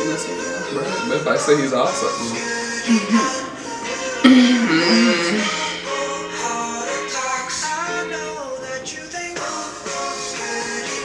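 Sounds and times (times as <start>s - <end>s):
pop song with man singing: 0.0s - 11.0s.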